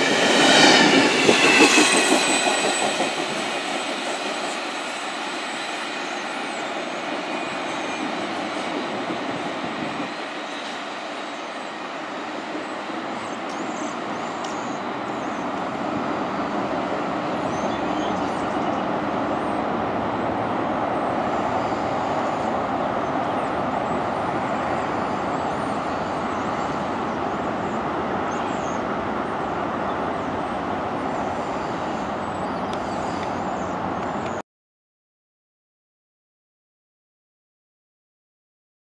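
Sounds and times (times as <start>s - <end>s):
freight train rumbling: 0.0s - 34.4s
road traffic: 0.0s - 34.4s.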